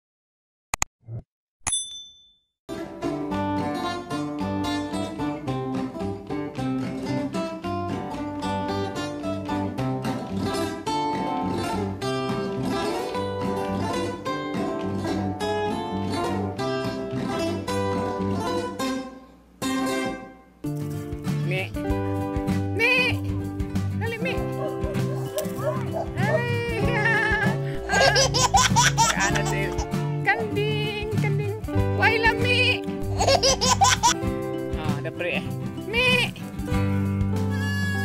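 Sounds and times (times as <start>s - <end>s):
instrumental background music: 2.7s - 38.0s.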